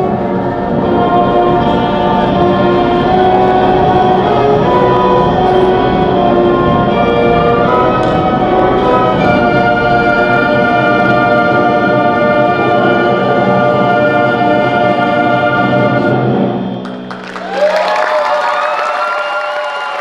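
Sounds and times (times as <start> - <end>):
band playing brass chords: 0.0 - 17.7.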